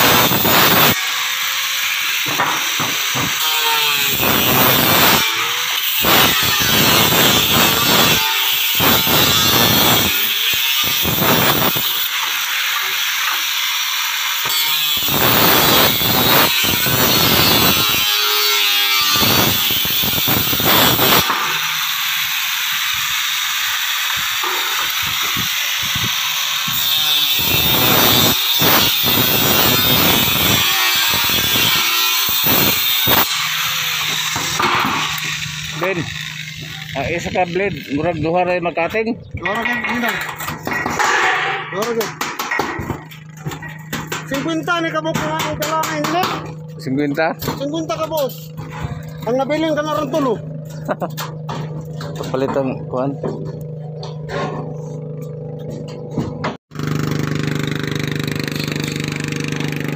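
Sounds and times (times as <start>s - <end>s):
angle grinder cutting steel sheet: 0.0s - 38.9s, 39.5s - 59.9s.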